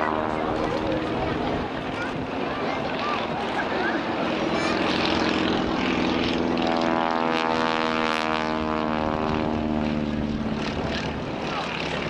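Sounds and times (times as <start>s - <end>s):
propeller plane droning past: 0.0s - 12.0s.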